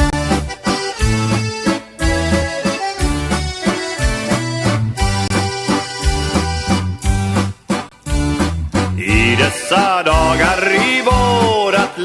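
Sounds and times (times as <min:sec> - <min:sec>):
bouncing bass: 0:00.0 - 0:11.6
guitar chords: 0:00.0 - 0:12.0
steady beat: 0:00.0 - 0:12.0.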